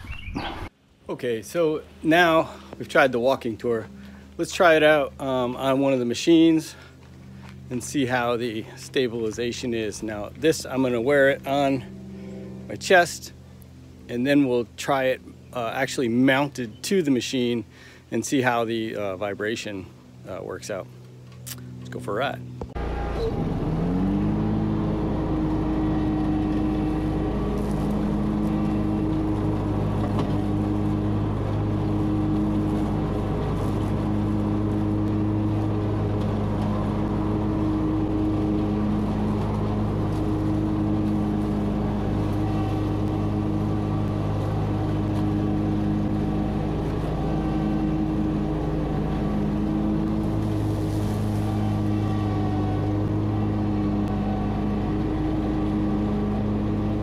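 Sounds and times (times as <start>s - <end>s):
riding lawn mower engine running: 0.0s - 57.0s.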